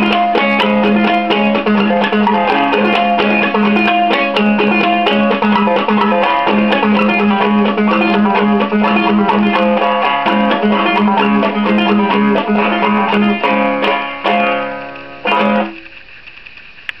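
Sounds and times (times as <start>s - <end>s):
banjo plucked notes: 0.0s - 16.0s
banjo strummed chords: 0.0s - 16.0s.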